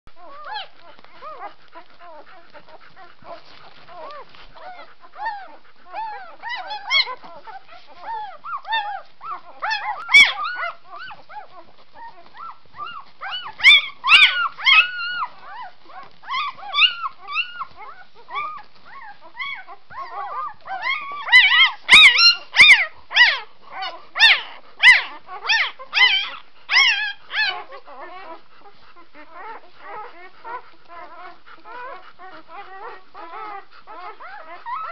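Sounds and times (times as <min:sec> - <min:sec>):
puppies squeaking and whimpering: 0:00.1 - 0:34.9.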